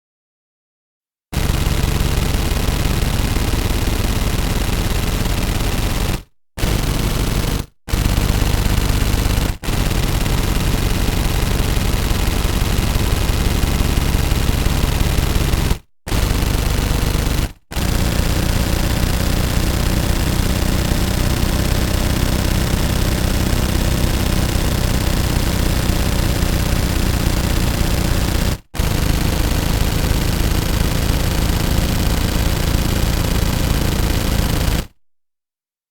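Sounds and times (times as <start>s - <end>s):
automatic gunfire bursts: 1.4s - 35.0s.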